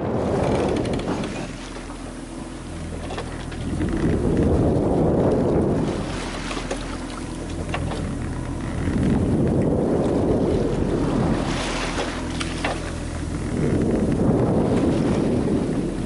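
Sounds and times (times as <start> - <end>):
sea rushing along hull: 0.0 - 16.0
wind buffeting microphone: 0.0 - 16.0.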